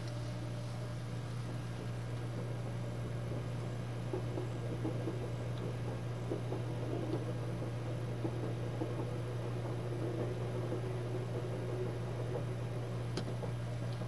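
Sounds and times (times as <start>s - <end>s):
distant train passing: 0.0s - 14.0s
low hum and hiss in train compartment: 0.0s - 14.0s.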